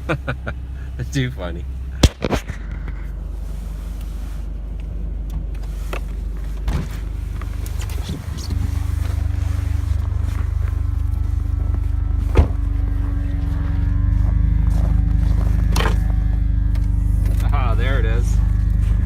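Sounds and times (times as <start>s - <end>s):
sports car engine running: 0.0s - 19.0s
steady hum: 0.0s - 19.0s.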